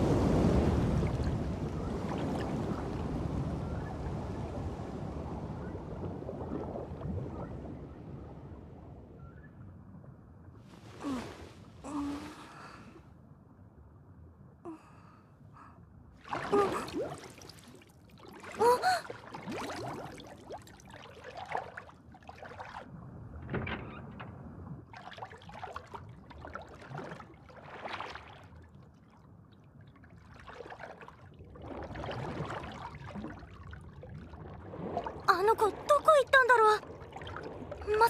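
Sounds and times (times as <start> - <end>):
water swishing and bubbling: 0.0 - 38.0.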